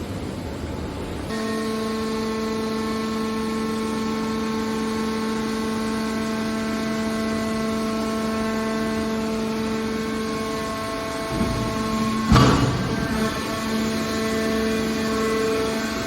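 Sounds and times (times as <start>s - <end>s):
hydraulic power unit humming: 1.2s - 16.0s.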